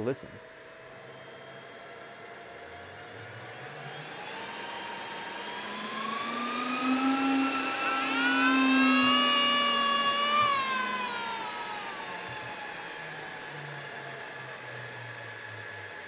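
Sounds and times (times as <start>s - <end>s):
cooling fans whining: 0.0s - 16.0s.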